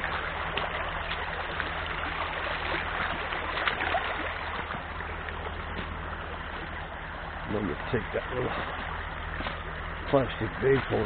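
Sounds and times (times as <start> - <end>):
stream babbling over stones: 0.0 - 11.0.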